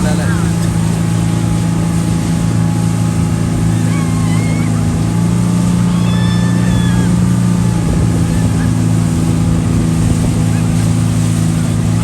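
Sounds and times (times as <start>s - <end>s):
speedboat engine running: 0.0s - 12.0s
wind and water rushing: 0.0s - 12.0s.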